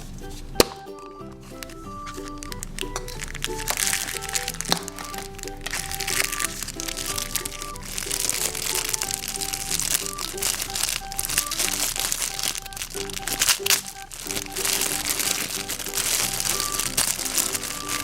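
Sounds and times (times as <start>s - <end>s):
light melody background music: 0.0s - 18.0s
wrapping crinkling and tearing: 0.0s - 18.0s.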